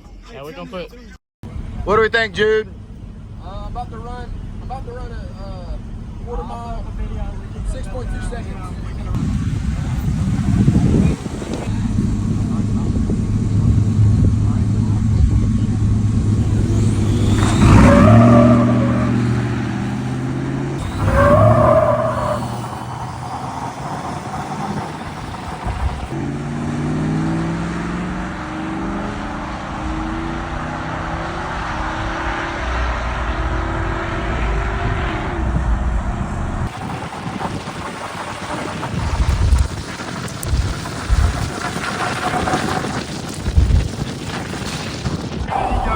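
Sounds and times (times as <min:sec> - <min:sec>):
truck engine revving and accelerating: 0:01.5 - 0:43.8.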